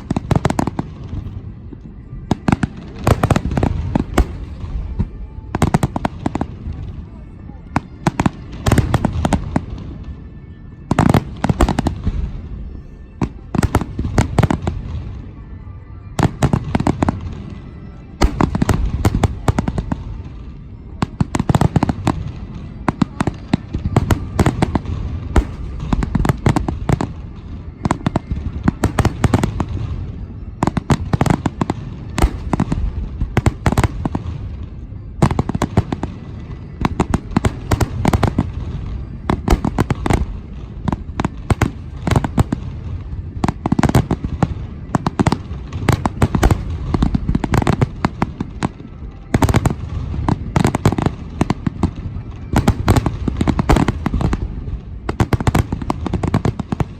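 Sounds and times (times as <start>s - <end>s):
fireworks bursting: 0.0s - 15.4s, 16.0s - 56.9s.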